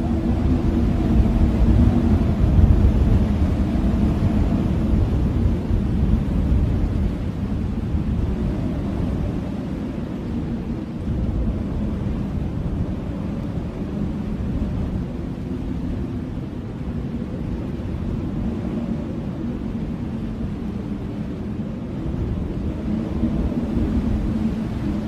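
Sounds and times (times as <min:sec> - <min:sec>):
blizzard wind gusting: 0:00.0 - 0:25.0.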